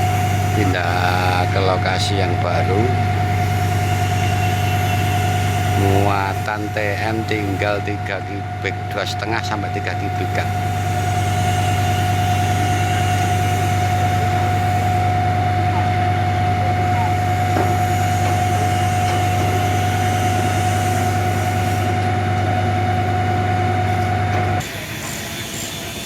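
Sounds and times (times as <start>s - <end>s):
diesel truck engine droning: 0.0s - 26.0s
high whine: 0.0s - 26.0s.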